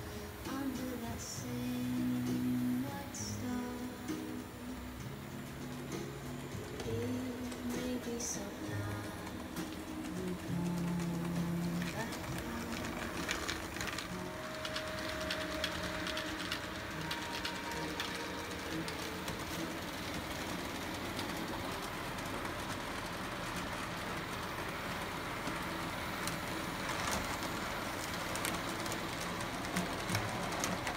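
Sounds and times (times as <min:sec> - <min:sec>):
model locomotive whirring: 0:00.0 - 0:30.9
wheels clicking over rails: 0:00.0 - 0:30.9.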